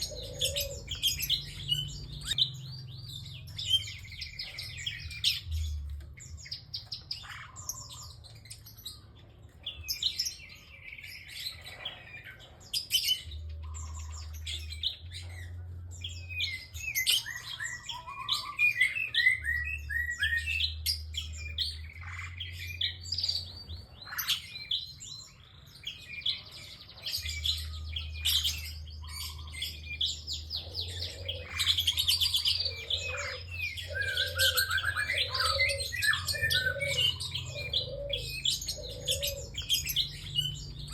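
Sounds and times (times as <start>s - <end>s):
bird calling with high chirps: 0.0s - 40.9s.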